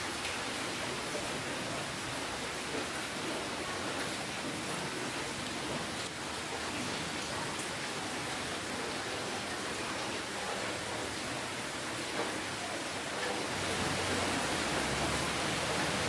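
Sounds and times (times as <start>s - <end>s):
faint raindrops: 0.0s - 16.0s
rain hissing: 0.0s - 16.0s.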